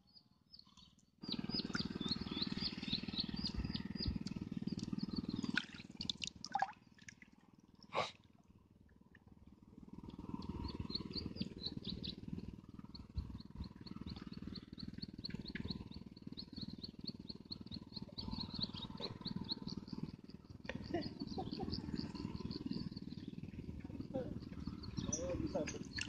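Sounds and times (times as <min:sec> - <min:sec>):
steady low rumble: 0:01.2 - 0:06.4, 0:09.6 - 0:26.0.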